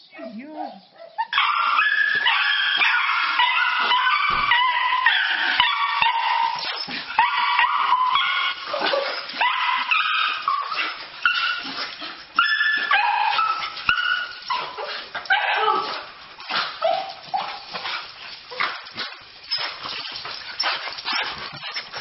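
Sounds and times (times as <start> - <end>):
dogs whining and yipping: 0.2 - 22.0.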